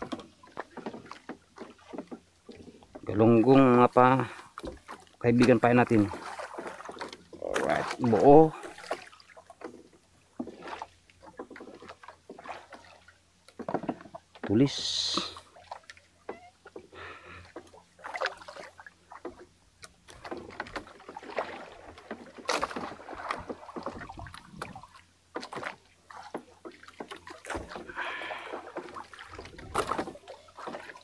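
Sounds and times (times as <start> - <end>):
water splashing against boat: 0.0 - 31.0.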